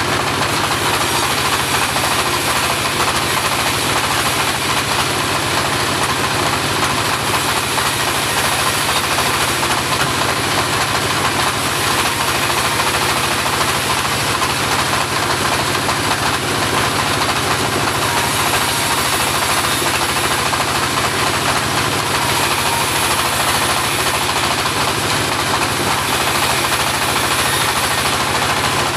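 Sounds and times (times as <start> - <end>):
bandsaw sawmill engine running: 0.0 - 28.9.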